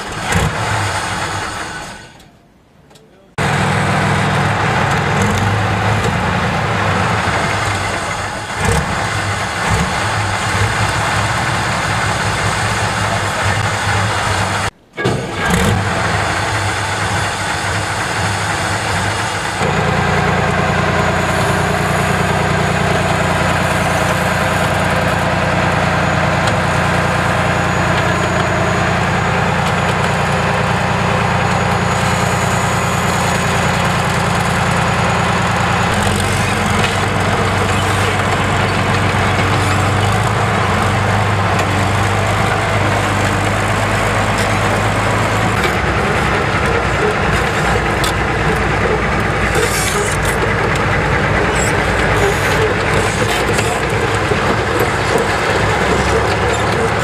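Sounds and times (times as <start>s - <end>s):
bulldozer diesel engine running: 0.0s - 2.6s, 3.4s - 57.0s.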